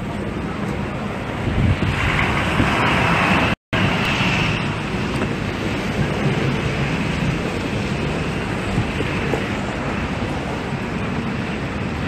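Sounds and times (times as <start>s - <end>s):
city traffic noise: 0.0s - 12.0s
wind rushing over a microphone: 0.0s - 12.0s.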